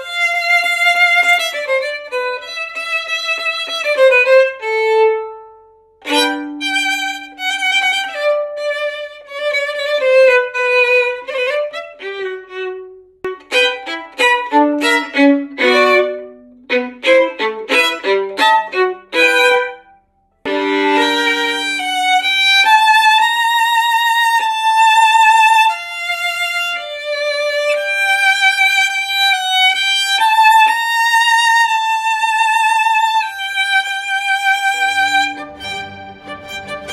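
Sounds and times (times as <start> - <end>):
solo violin playing: 0.0 - 19.9, 20.5 - 36.9.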